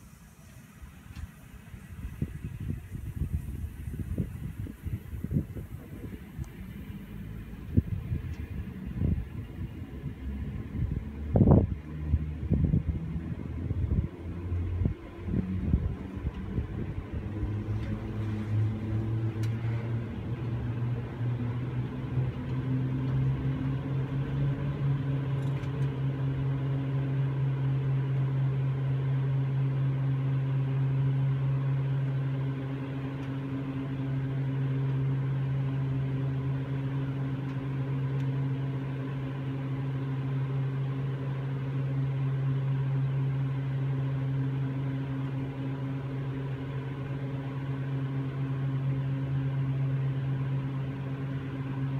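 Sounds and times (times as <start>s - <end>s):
ropeway machinery humming: 0.0s - 51.9s.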